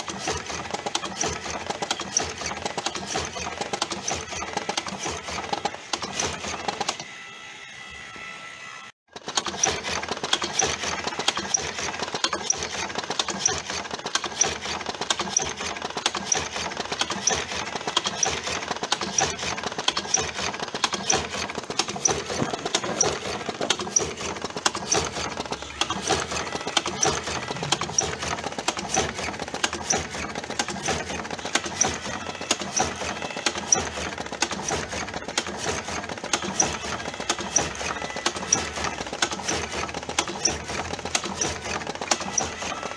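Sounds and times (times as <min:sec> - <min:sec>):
machine mechanical clatter: 0:00.0 - 0:07.1, 0:09.1 - 0:42.9.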